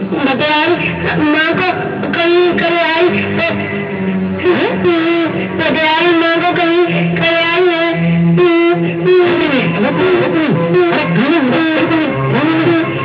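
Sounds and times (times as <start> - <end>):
held bass notes: 0.0 - 13.0
wavering lead melody with vibrato: 0.0 - 13.0.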